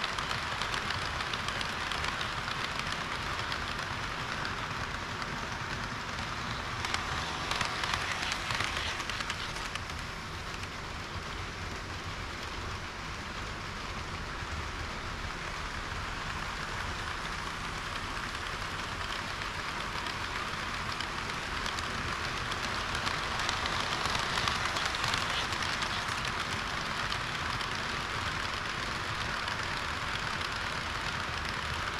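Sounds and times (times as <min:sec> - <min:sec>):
model train wheels on rails: 0:00.0 - 0:31.9.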